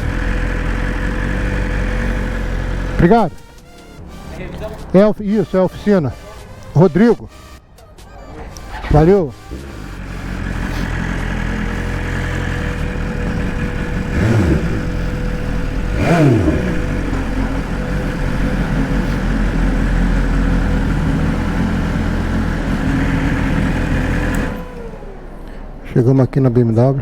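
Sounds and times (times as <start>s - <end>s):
motorcycle engine revving: 0.0s - 7.5s, 8.5s - 25.8s.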